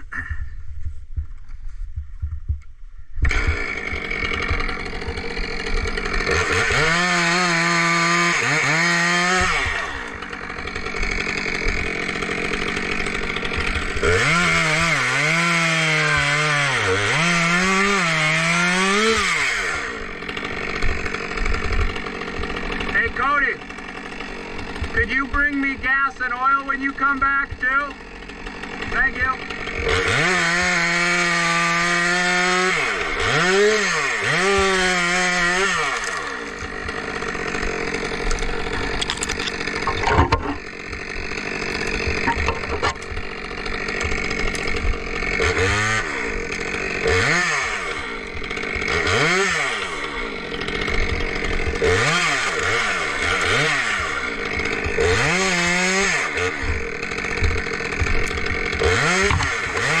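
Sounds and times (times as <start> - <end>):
chainsaw cutting wood: 0.0 - 60.0.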